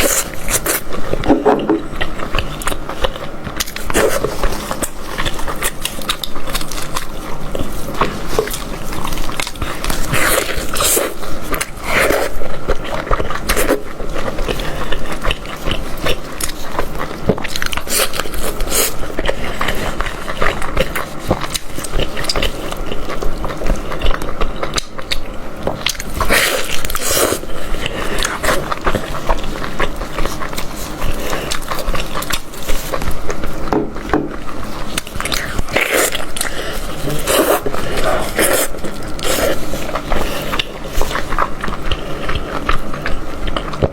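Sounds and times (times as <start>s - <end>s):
person chewing and tearing meat: 0.0s - 43.9s.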